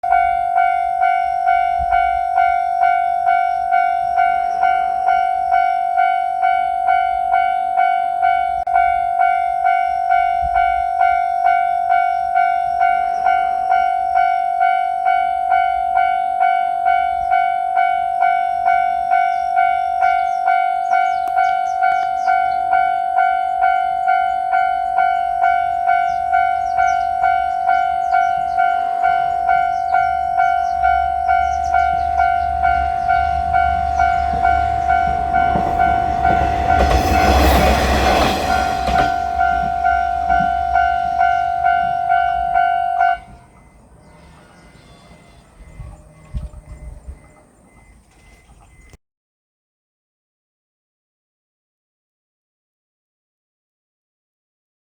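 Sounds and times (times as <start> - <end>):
level-crossing warning bell: 0.0 - 49.0.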